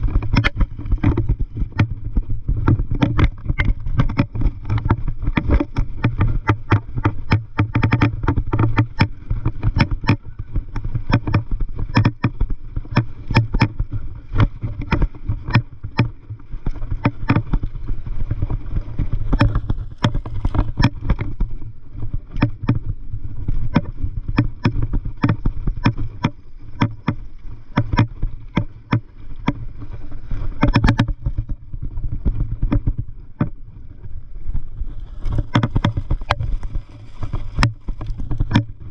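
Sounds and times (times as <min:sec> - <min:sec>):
bike rattling over dirt trail: 0:00.0 - 0:38.9
steady low rumble: 0:00.0 - 0:38.9.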